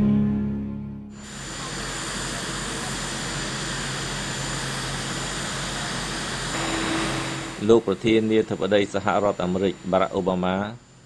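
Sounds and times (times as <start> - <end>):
jet engines rushing: 1.1 - 10.1
high-pitched engine whine: 1.1 - 11.0.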